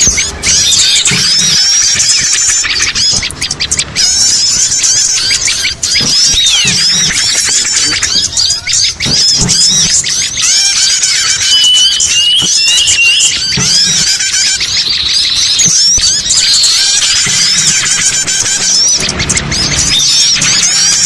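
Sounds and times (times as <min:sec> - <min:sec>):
dry bird trill: 0:00.0 - 0:21.0
songbirds chirping and twittering: 0:00.0 - 0:21.0.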